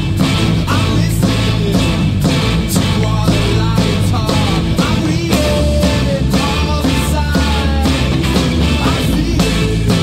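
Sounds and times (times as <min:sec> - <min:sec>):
rock music with singing: 0:00.0 - 0:10.0.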